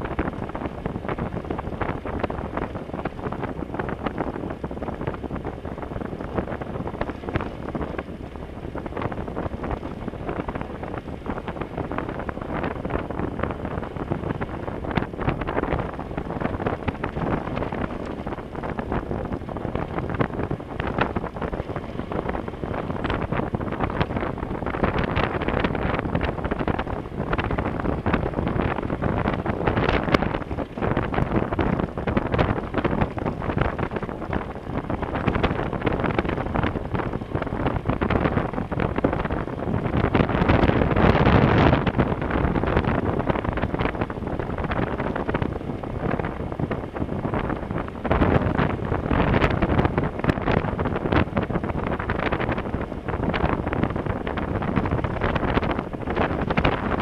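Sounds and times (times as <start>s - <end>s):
tyres on gravel road: 0.0s - 57.0s
wind buffeting microphone: 0.0s - 57.0s.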